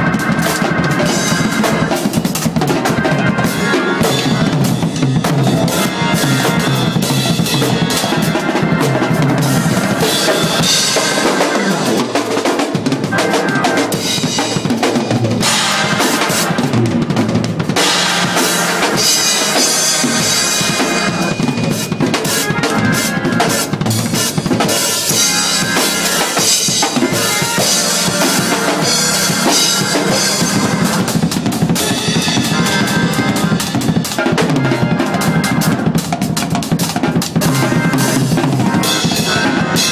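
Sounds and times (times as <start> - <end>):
drum kit played fast: 0.0 - 39.9.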